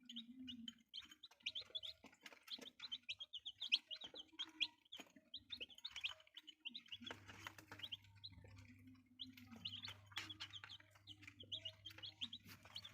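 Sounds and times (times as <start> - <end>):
chicks peeping: 0.0 - 12.9.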